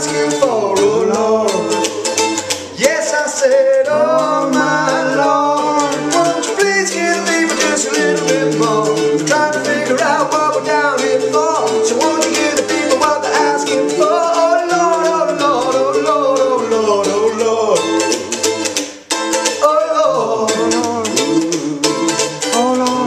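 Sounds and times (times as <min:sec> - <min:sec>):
person singing wordless line: 0:00.0 - 0:18.7, 0:19.6 - 0:23.0
mandolin strumming: 0:00.0 - 0:23.0.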